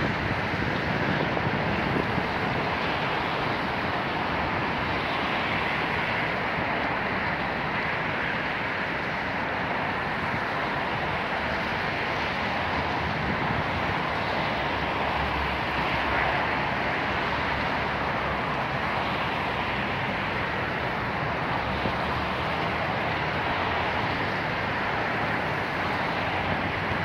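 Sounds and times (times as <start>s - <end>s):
city river rushing: 0.0s - 27.0s.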